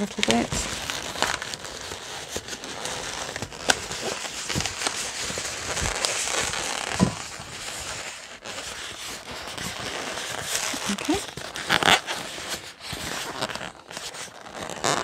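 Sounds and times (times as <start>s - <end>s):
balloons rubbing and squeaking: 0.0s - 15.0s.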